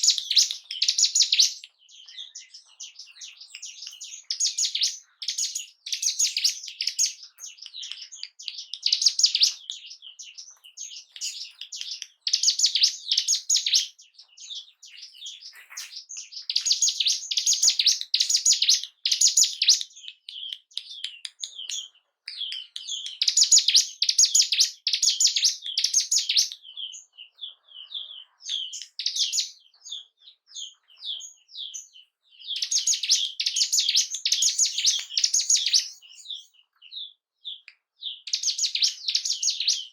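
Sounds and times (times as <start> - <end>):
bird singing shrill chattering: 0.0 - 39.9
sharp bird chirps: 0.0 - 39.9.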